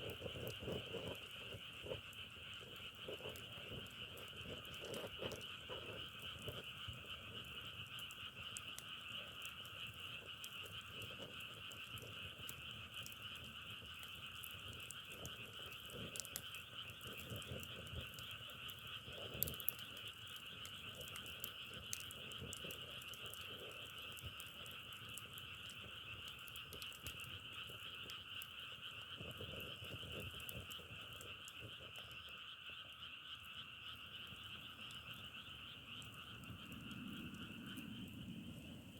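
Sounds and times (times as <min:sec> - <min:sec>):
frog chorus trilling: 0:00.1 - 0:38.9.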